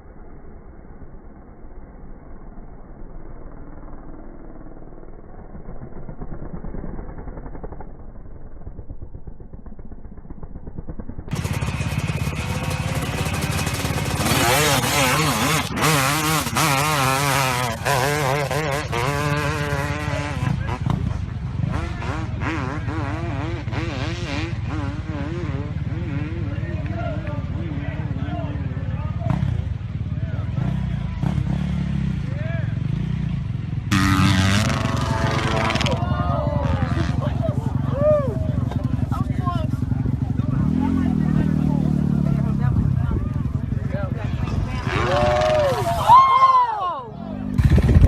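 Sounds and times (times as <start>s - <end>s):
loud motocross bike engine: 0.0s - 48.0s
muffled dirt bike engine: 0.0s - 48.0s.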